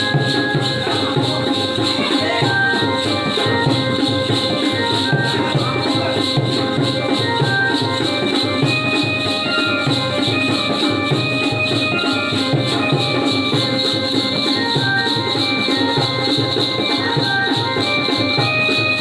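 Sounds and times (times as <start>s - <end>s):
dholki drum beating fast rhythm: 0.0s - 19.0s
high held melody: 0.0s - 19.0s
jingling percussion: 0.0s - 19.0s.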